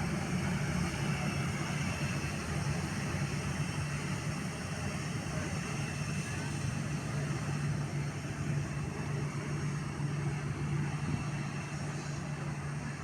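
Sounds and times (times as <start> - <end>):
aircraft engine hum: 0.0 - 13.0.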